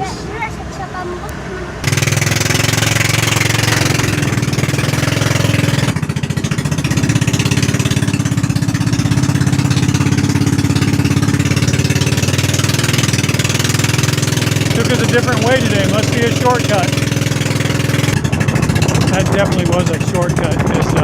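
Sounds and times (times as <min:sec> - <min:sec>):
motorboat engine putter: 0:01.8 - 0:21.0.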